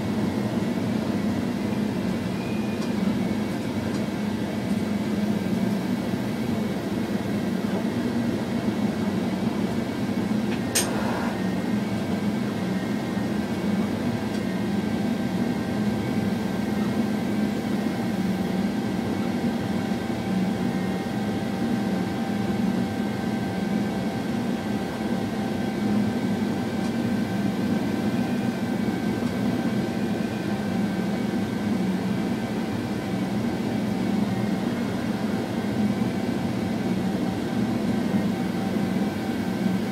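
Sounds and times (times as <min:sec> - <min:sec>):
train rumble and hum: 0:00.0 - 0:39.9.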